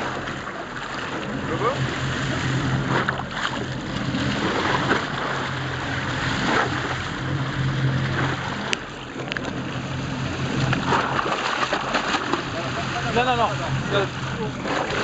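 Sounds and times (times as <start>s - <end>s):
boat engine humming: 0.0s - 15.0s
rushing water: 0.0s - 15.0s.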